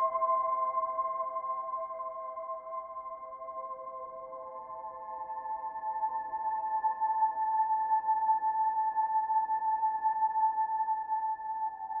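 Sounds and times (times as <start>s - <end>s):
calm ambient music: 0.0s - 12.0s.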